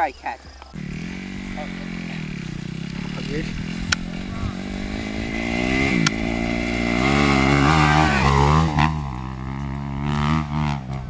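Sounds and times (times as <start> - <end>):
dirt bike engine revving: 0.7 - 11.0.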